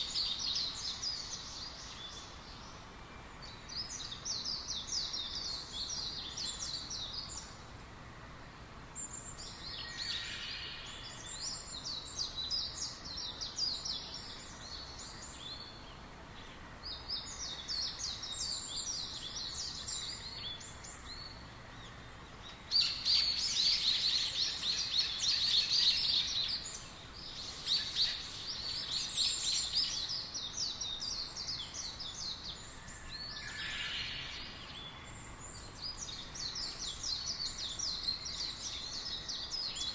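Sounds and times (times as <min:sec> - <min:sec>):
faint background noise: 0:00.0 - 0:39.9
songbirds chirping: 0:00.0 - 0:39.9.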